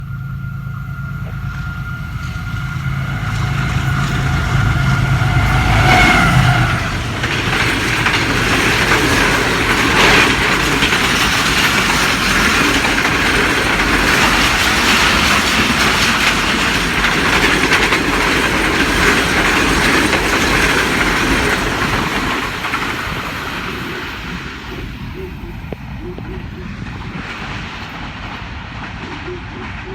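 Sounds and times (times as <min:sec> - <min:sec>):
locomotive rumble: 0:00.0 - 0:29.9
train wheels clattering on rails: 0:00.0 - 0:29.9.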